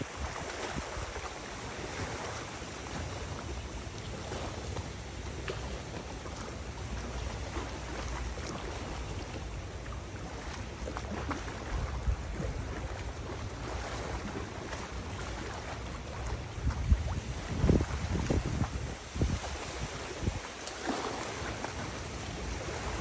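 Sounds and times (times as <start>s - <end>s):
wind gusting on microphone: 0.0s - 7.6s, 8.4s - 23.0s
river water rushing: 0.0s - 23.0s.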